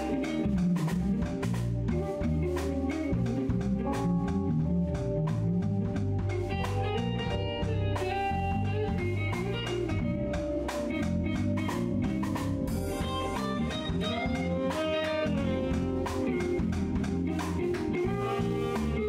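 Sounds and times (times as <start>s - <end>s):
drum kit beat: 0.0s - 19.0s
electric bass: 0.0s - 19.0s
electric guitar lead: 0.0s - 19.0s.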